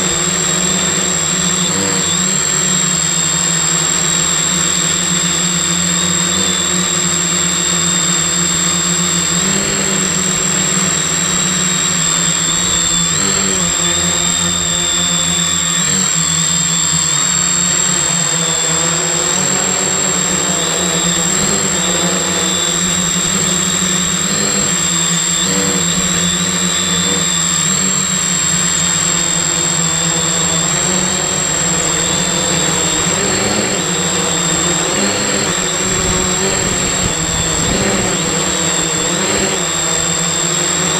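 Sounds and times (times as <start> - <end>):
drone propellers buzzing: 0.0 - 40.9
steady high whine: 0.0 - 40.9.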